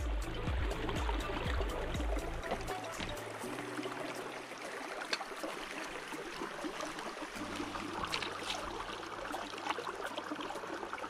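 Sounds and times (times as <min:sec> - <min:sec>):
stream running over stones: 0:00.0 - 0:11.0.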